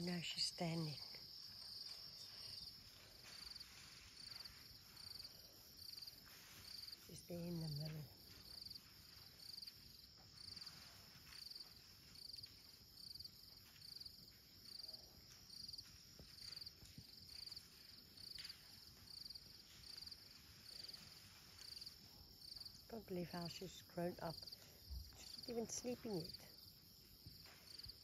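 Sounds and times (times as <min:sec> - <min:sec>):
cricket chirping: 0:00.0 - 0:28.0.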